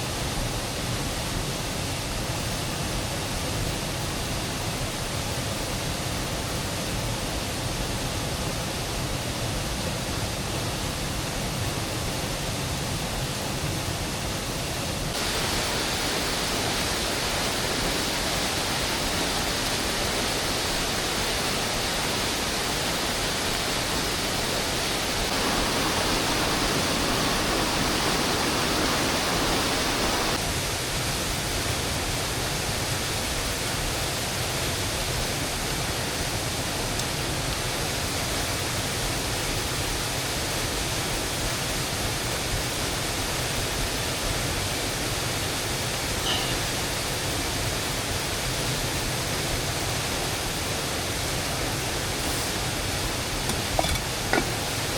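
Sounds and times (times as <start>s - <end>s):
rushing hiss of water: 0.0s - 54.9s.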